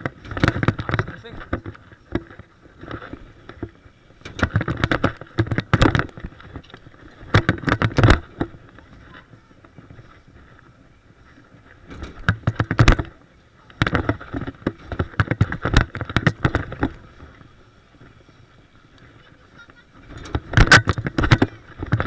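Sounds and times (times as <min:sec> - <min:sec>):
bike rattling and clattering: 0:00.0 - 0:22.0
bike tyres rolling: 0:00.0 - 0:22.0.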